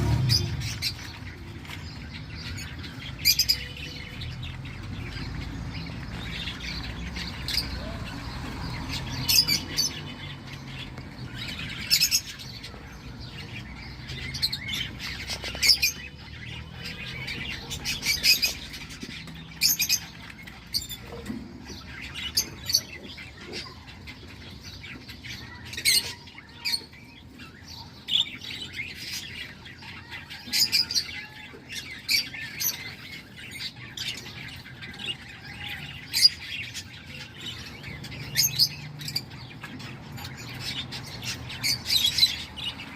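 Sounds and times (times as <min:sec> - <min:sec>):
chicks calling: 0:00.0 - 0:42.9.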